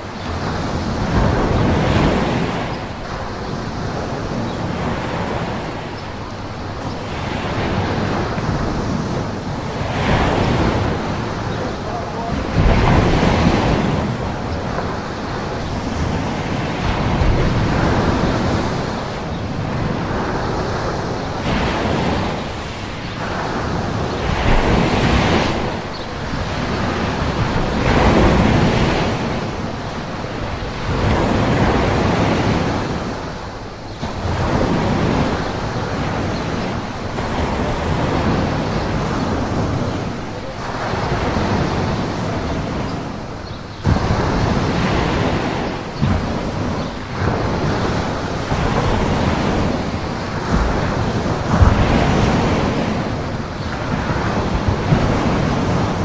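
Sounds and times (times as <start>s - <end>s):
surf breaking on sandy shore: 0.0s - 56.0s.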